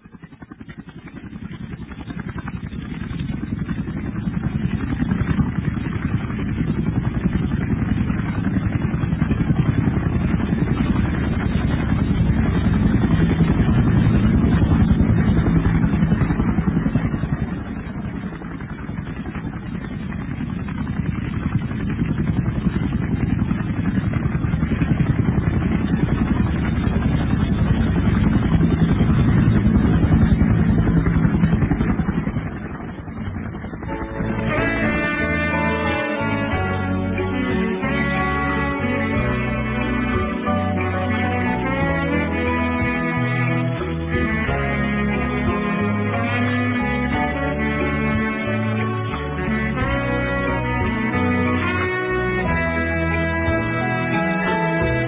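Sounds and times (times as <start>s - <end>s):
steady engine: 0.0s - 55.0s.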